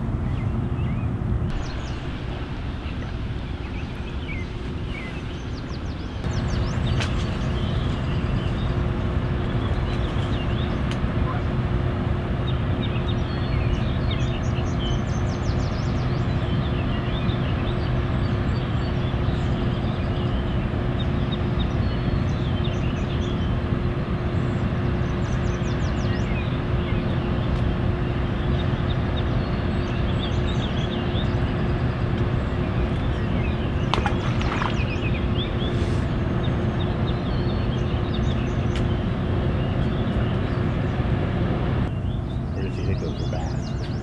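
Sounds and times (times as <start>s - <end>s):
birds chirping and trilling: 0.0s - 44.0s
low rumble with hum: 0.0s - 44.0s.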